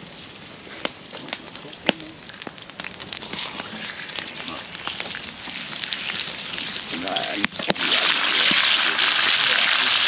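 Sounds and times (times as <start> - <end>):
steaks sizzling on griddle: 0.0 - 10.0
wood fire crackling: 0.0 - 10.0.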